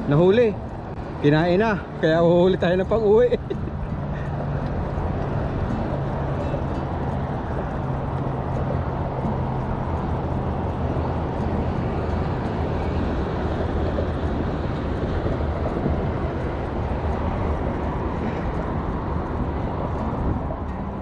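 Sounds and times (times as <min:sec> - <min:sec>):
motorboat engine running: 0:00.0 - 0:21.0
wind and water noise: 0:00.0 - 0:21.0.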